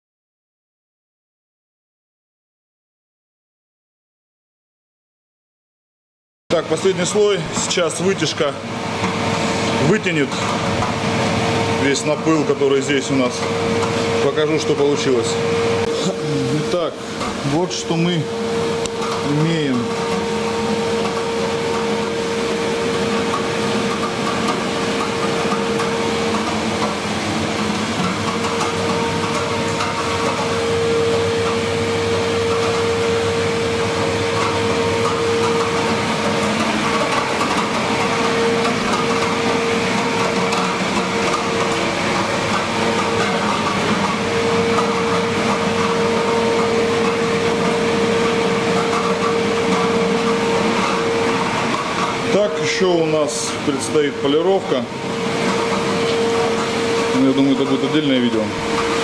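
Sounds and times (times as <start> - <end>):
exhaust fan running: 6.5 - 59.0.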